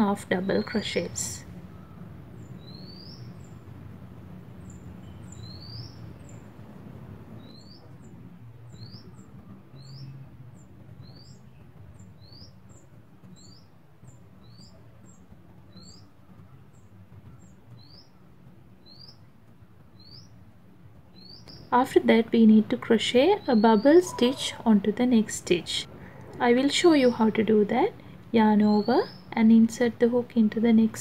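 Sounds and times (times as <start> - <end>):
low steady hum: 0.0 - 31.0
bird chirping: 0.3 - 6.7, 7.3 - 30.9.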